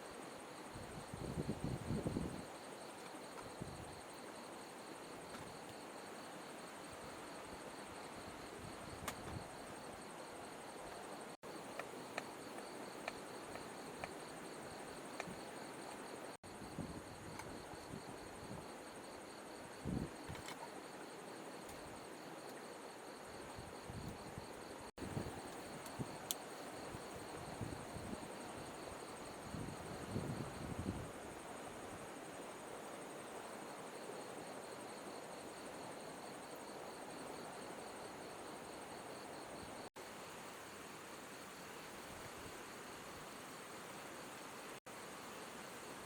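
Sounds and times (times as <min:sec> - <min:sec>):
insects trilling: 0:00.1 - 0:46.0.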